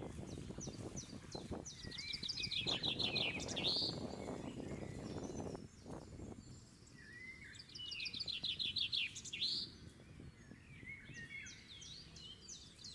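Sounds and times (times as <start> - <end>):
songbird singing: 0.0 - 12.9.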